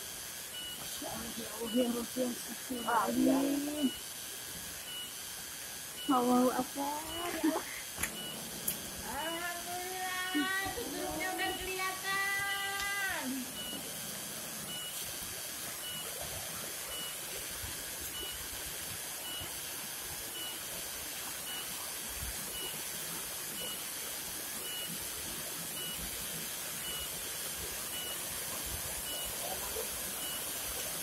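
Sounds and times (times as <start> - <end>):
falling water hissing: 0.0 - 31.0.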